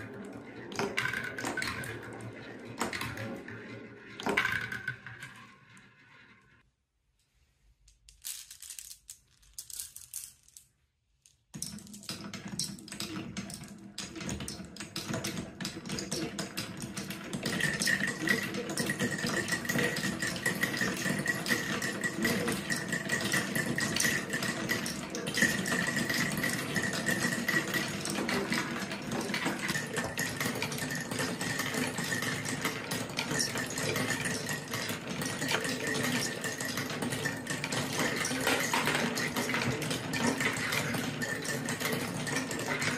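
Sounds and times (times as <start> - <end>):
marbles rattling down wooden run: 0.0 - 6.5, 8.2 - 10.7, 11.6 - 42.9.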